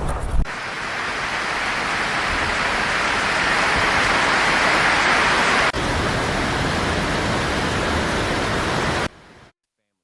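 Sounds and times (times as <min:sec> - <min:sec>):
rushing flood water: 0:00.5 - 0:09.2.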